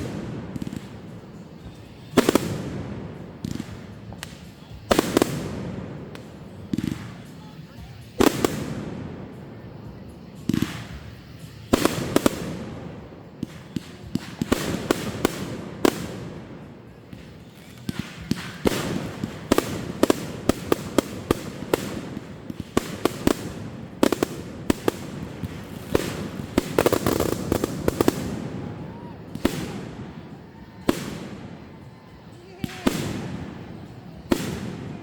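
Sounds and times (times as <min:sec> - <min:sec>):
fireworks bangs and cracks: 0:00.0 - 0:35.0.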